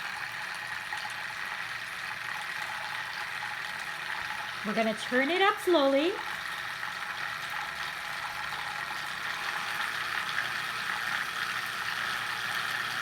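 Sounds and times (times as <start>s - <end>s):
water whirling in a beaker: 0.0s - 13.0s.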